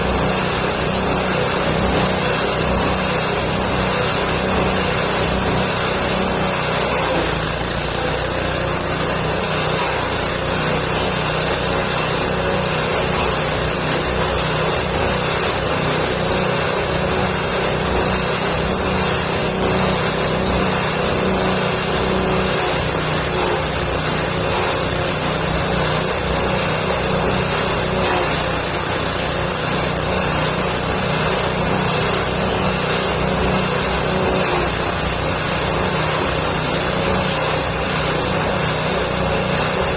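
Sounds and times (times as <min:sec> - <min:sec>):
small engine chopper humming: 0:00.0 - 0:39.9.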